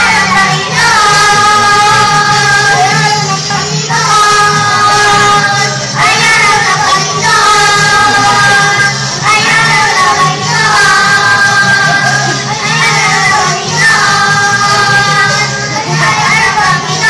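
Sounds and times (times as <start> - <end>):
children singing together: 0.0 - 17.0
musical accompaniment: 0.0 - 17.0.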